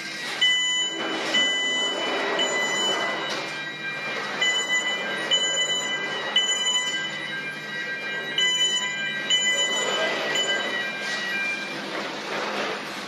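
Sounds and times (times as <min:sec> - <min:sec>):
fire alarm siren pulsing: 0:00.0 - 0:12.5.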